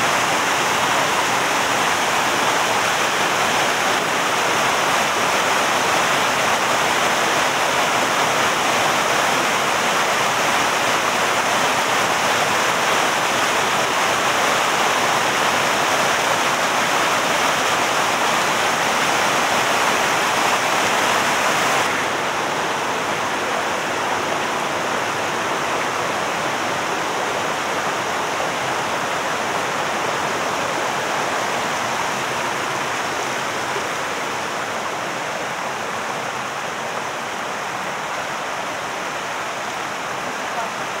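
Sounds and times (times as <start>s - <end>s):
water rushing over rocks: 0.0s - 41.0s.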